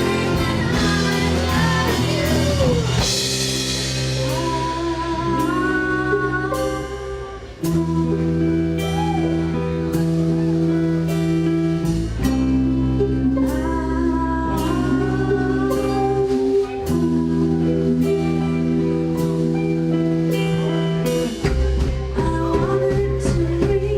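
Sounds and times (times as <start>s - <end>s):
electric guitar chords: 0.0s - 23.9s.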